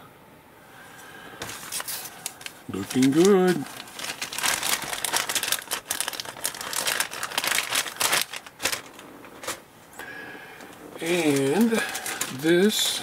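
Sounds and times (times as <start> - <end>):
plastic bag crinkling: 1.4 - 9.7, 10.7 - 13.0.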